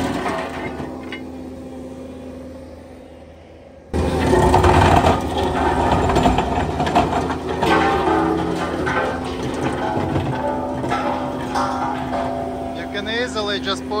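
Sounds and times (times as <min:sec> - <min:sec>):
mechanical grinding through rocky ground: 0:00.0 - 0:01.8, 0:03.9 - 0:14.0.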